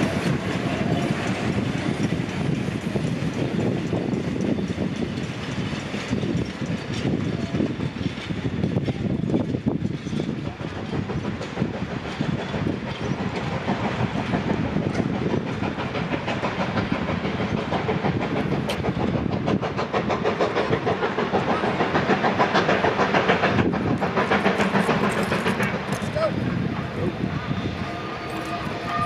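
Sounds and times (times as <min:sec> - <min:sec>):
steam train exhaust beats: 0:00.0 - 0:29.0.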